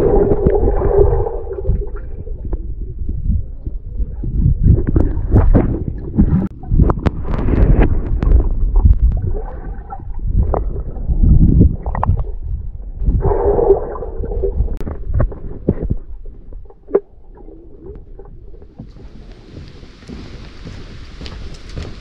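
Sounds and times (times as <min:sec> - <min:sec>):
underwater knocks: 0:00.0 - 0:19.6
muffled underwater water rumble: 0:00.0 - 0:22.0
water gurgle: 0:00.0 - 0:22.0.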